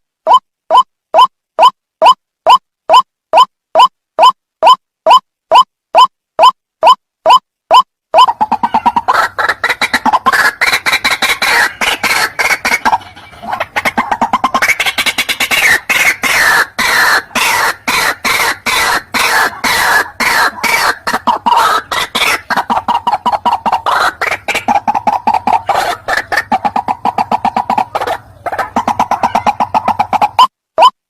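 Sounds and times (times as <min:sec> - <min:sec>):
waterhen clucking calls: 0:00.3 - 0:31.0.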